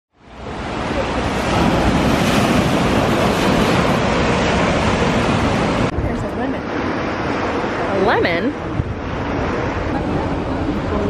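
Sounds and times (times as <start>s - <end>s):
sea waves on rocks: 0.2s - 11.0s
wind buffeting microphone: 0.3s - 11.0s.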